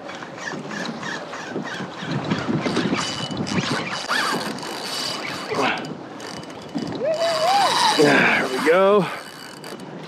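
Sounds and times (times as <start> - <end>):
waves splashing against a kayak: 0.0 - 10.0
wind on microphone: 0.3 - 8.8.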